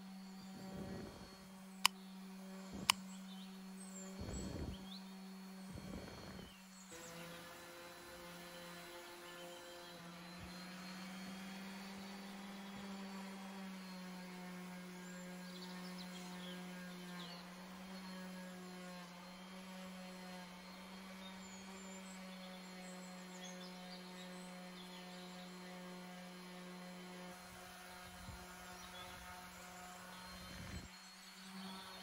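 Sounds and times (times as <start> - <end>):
orbital sander humming: 0.0 - 32.0.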